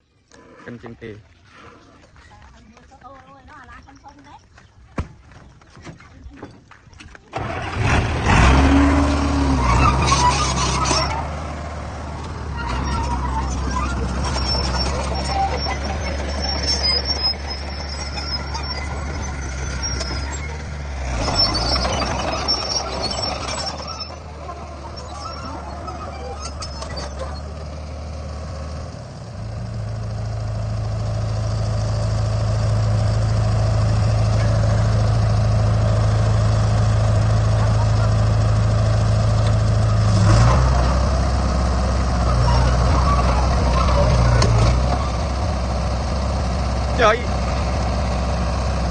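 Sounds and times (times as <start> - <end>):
heavy diesel engine running: 7.3 - 48.9.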